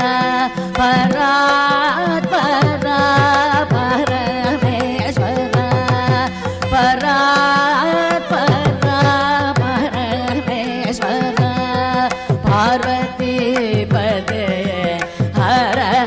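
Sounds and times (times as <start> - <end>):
woman singing ornamented phrases: 0.0 - 16.0.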